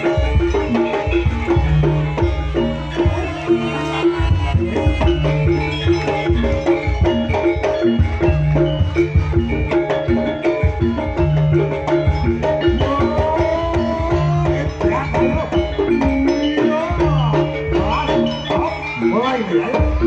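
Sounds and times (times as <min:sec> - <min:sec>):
drums beating: 0:00.0 - 0:20.0
tuned percussion notes: 0:00.0 - 0:20.0.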